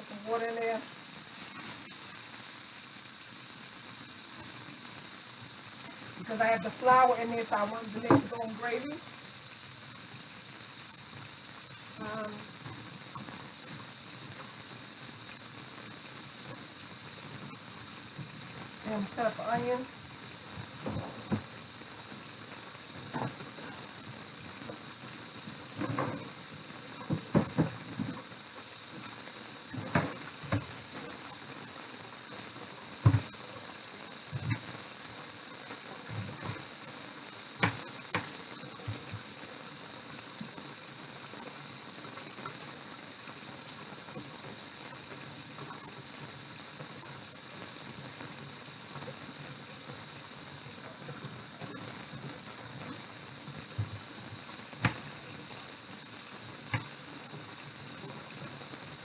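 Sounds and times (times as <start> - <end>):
steady hiss: 0.0 - 59.0.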